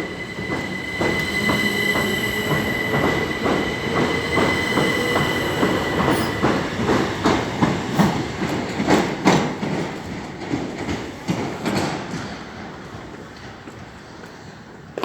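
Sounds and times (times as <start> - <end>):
train wheels clicking over rail joints: 0.4 - 15.0.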